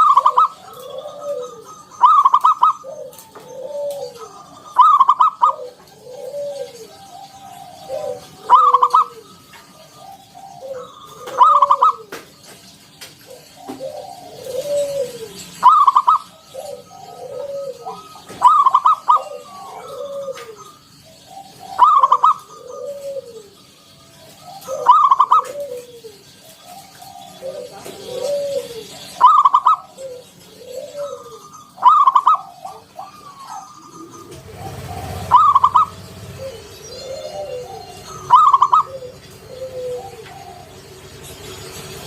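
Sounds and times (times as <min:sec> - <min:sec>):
dove cooing song: 0:00.0 - 0:42.0.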